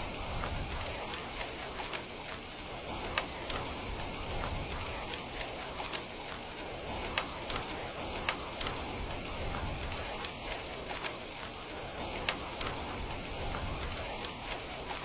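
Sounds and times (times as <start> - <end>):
raindrops ticking on surface: 0.0 - 15.0
steady rain hiss: 0.0 - 15.0.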